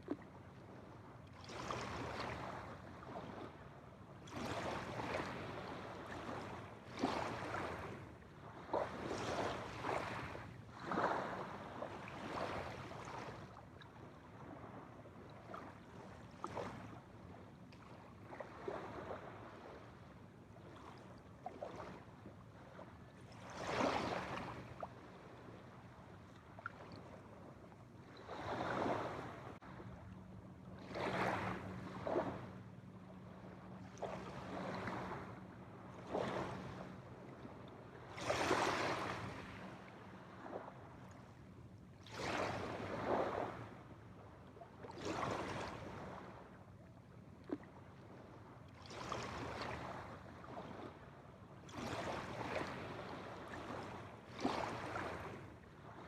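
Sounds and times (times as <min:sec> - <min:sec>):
small waves washing onto shore: 0:00.0 - 0:20.0, 0:20.6 - 0:41.2, 0:42.0 - 0:43.9, 0:44.8 - 0:46.6, 0:48.8 - 0:56.0.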